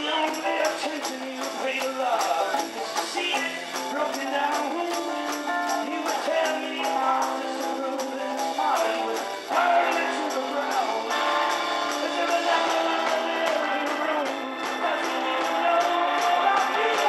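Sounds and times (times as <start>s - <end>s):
bright percussion beat: 0.0s - 17.0s
man singing: 0.0s - 17.0s
rock band playing live: 0.0s - 17.0s.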